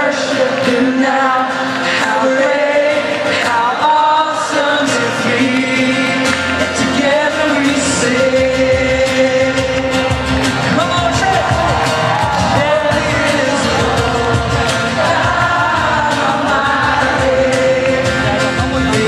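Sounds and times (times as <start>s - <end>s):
distant live concert music: 0.0s - 19.0s
person singing: 0.0s - 19.0s.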